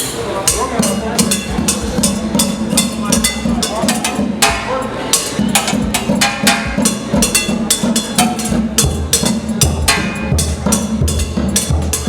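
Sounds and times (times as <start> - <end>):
percussion-led music: 0.0 - 12.0.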